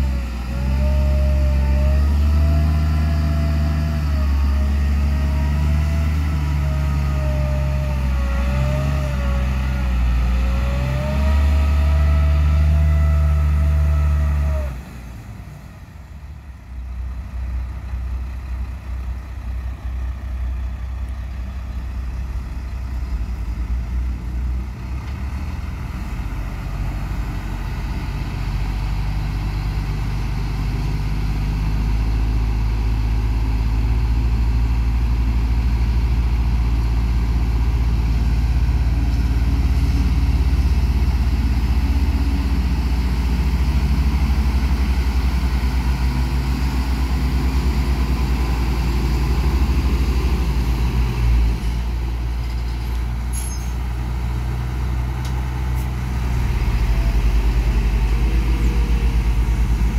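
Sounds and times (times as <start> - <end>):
diesel truck engine rumbling: 0.0 - 59.9.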